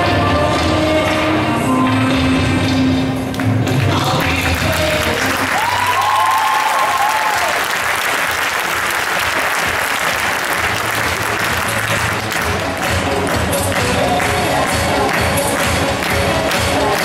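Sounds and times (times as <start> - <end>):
audience applauding: 3.3 - 17.0.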